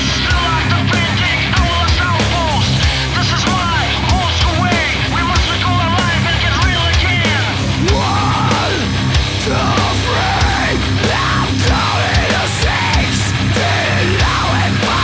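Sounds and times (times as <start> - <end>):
hard rock music: 0.0 - 15.0.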